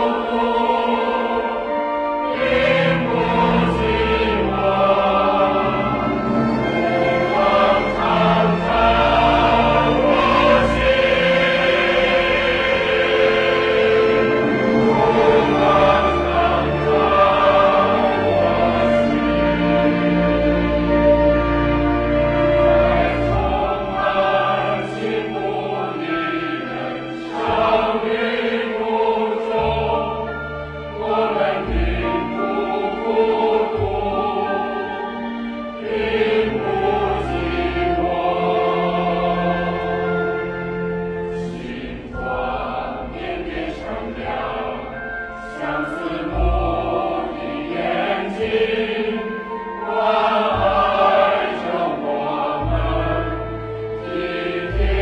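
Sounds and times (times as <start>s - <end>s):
choir singing long notes: 0.0s - 55.0s.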